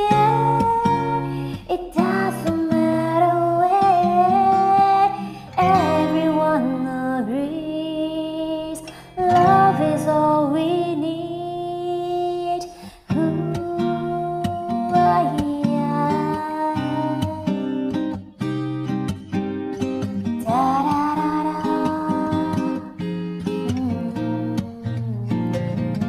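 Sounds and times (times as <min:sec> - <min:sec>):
woman singing: 0:00.0 - 0:18.2, 0:20.2 - 0:26.0
acoustic guitar: 0:00.0 - 0:26.0.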